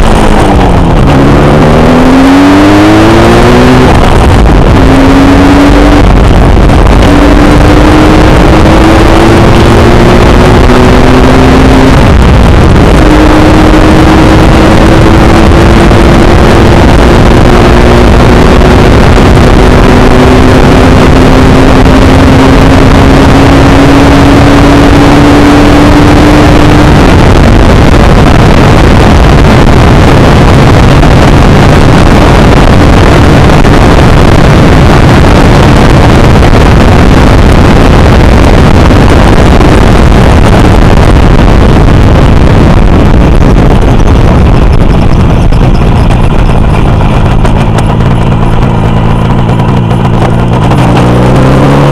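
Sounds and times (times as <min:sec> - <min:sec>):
motorcycle engine at high speed: 0:00.0 - 0:51.9
wind noise on microphone: 0:00.0 - 0:51.9.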